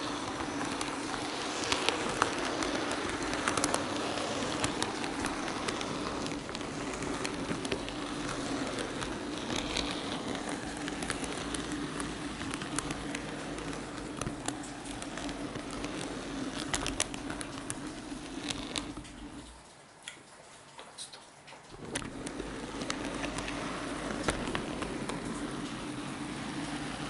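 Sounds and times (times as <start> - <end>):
electric motor hum: 0.0 - 19.6, 21.7 - 27.0
wheels clicking over rail joints: 0.0 - 27.0.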